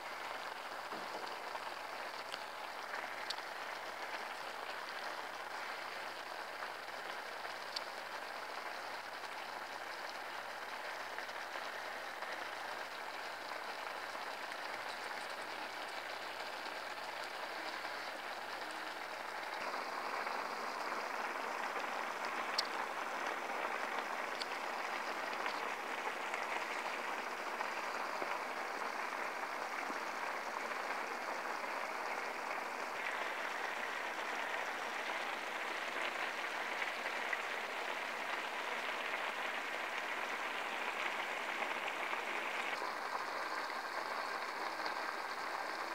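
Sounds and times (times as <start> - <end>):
broth simmering and bubbling: 0.0 - 45.9.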